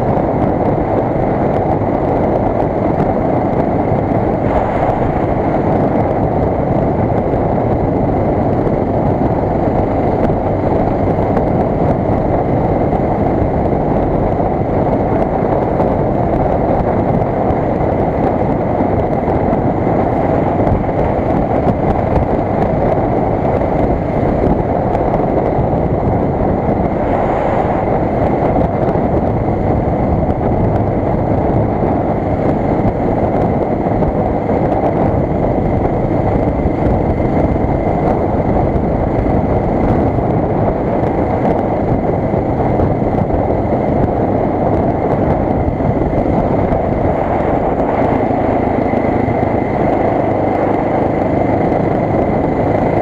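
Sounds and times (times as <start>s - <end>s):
motorcycle engine cruising: 0.0s - 53.0s
wind and road rush: 0.0s - 53.0s.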